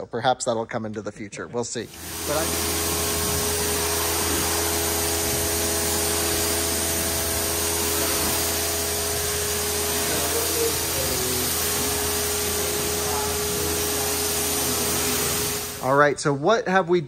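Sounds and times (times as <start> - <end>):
machine humming: 1.8 - 16.0
pressure washer spraying water: 1.9 - 16.0.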